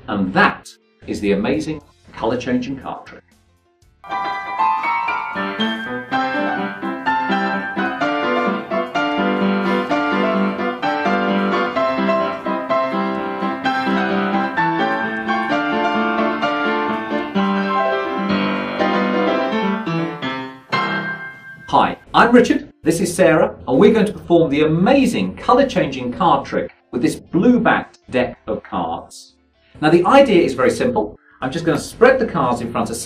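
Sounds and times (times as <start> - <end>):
piano background music: 0.0 - 29.1.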